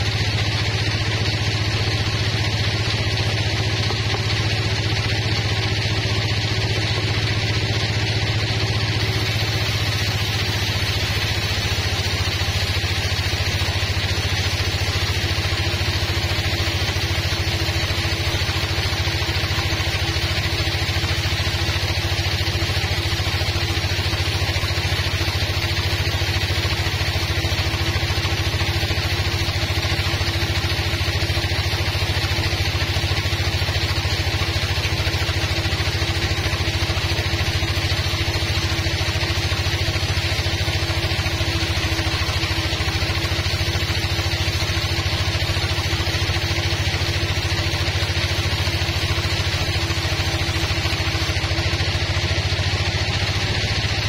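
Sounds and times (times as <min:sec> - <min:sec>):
band sawmill sawing log: 0:00.0 - 0:54.0.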